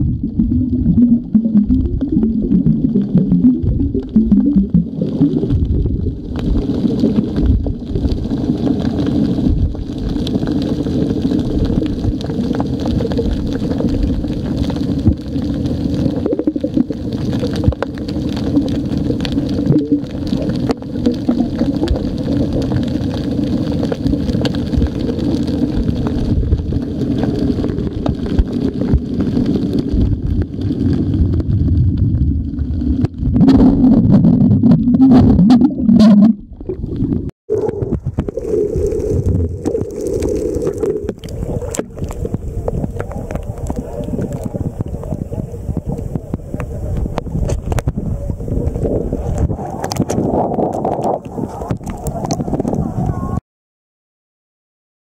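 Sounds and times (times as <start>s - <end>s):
boat engine droning underwater: 0.0s - 53.3s
water gurgling and crackling: 0.0s - 53.4s.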